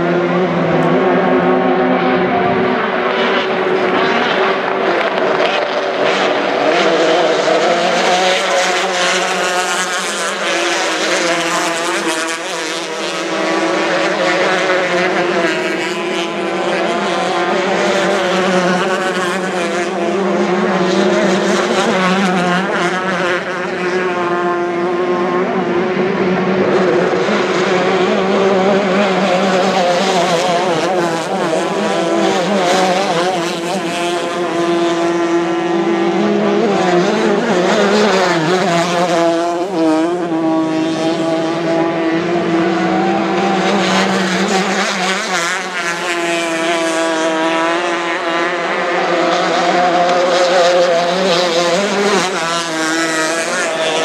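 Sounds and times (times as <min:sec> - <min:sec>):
racing boat engines at high revs: 0:00.0 - 0:54.0.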